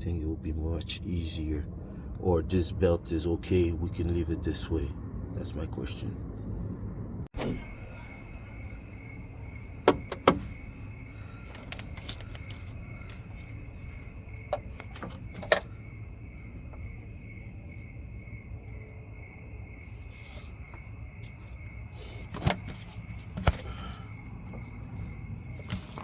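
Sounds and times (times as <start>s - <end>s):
low room hum: 0.0s - 26.0s.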